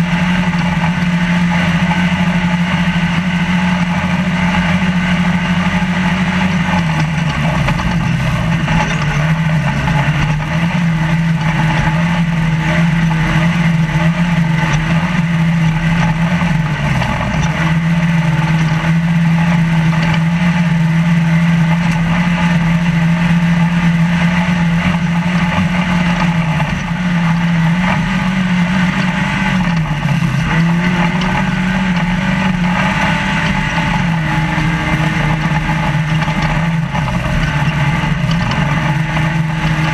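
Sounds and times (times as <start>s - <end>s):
constant rushing noise: 0.0s - 39.9s
truck engine revving high: 0.0s - 39.9s.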